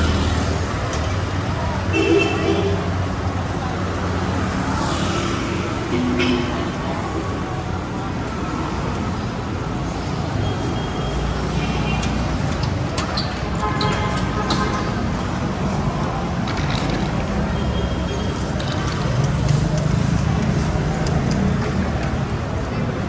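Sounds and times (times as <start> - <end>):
road traffic rumble: 0.0 - 23.0
voices of passers-by: 0.0 - 23.0.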